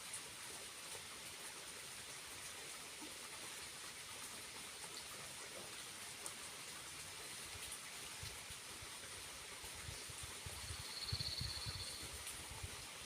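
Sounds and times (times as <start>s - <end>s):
small waterfall hissing: 0.0s - 13.0s.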